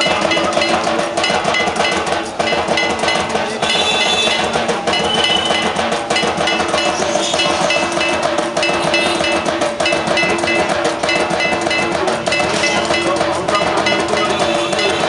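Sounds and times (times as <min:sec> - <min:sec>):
fast drumming: 0:00.0 - 0:15.0
metal gong beat: 0:00.0 - 0:15.0.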